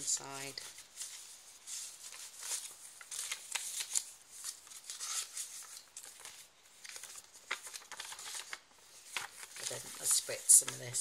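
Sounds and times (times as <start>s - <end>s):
paper rustling and sliding: 0.0s - 11.0s.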